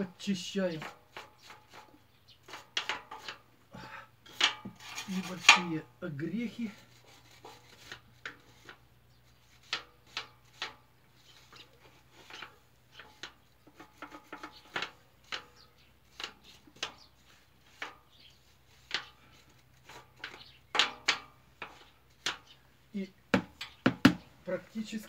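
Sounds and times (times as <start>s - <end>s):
scraping dirt off metal hub: 0.0s - 25.0s.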